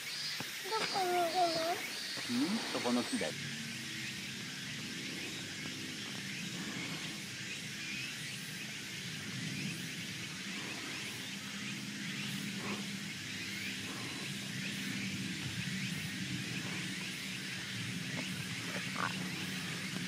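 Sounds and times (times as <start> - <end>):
even hiss: 0.0 - 20.0
low hum: 2.3 - 20.0.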